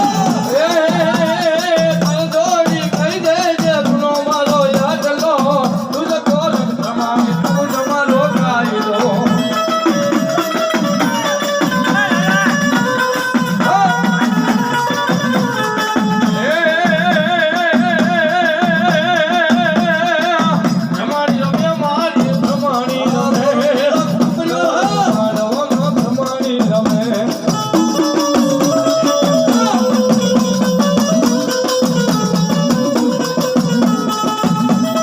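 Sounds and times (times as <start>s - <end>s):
devotional folk singing: 0.0s - 14.6s, 15.7s - 31.2s
steady drum beat and percussion: 0.0s - 35.0s.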